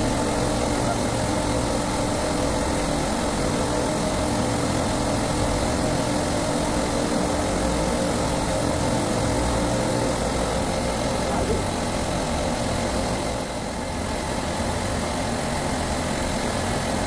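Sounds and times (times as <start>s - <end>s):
refrigeration compressors droning: 0.0s - 17.0s.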